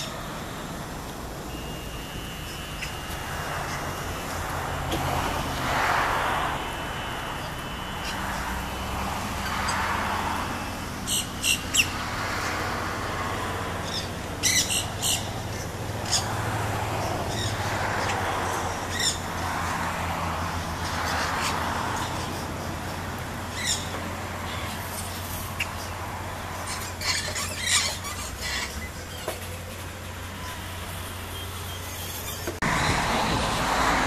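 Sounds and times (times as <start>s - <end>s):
parakeets squawking: 2.2s - 29.6s.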